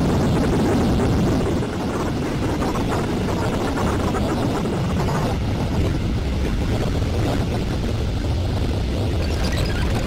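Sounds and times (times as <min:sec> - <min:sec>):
noisy electronic drone: 0:00.0 - 0:10.0.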